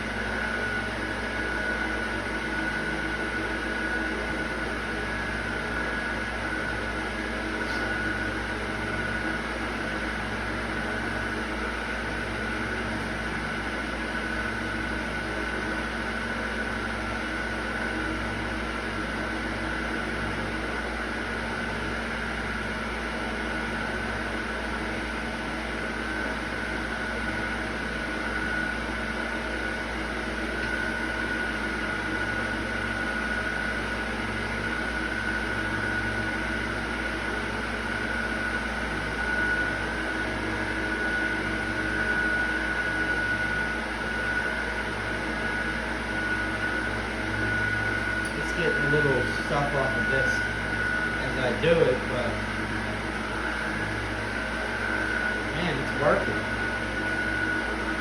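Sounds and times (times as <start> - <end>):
electric appliance motor humming: 0.0 - 58.0.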